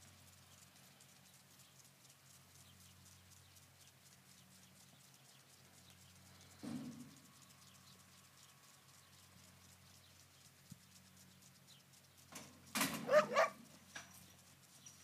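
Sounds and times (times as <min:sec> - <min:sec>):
light ticking: 0:00.0 - 0:15.0
steady low hum: 0:00.0 - 0:15.0.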